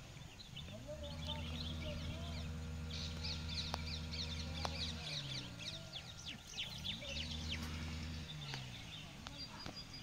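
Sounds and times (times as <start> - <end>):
low motor hum: 0.0 - 10.0
small birds chirping: 0.0 - 10.0.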